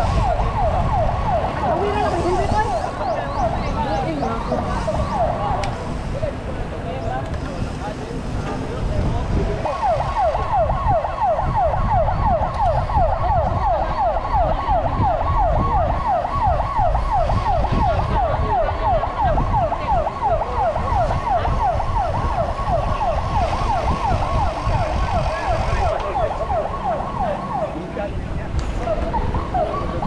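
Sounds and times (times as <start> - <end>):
electronic siren yelping: 0.0 - 5.7, 9.6 - 28.1, 28.8 - 30.0
wind rumble on camera: 0.0 - 30.0.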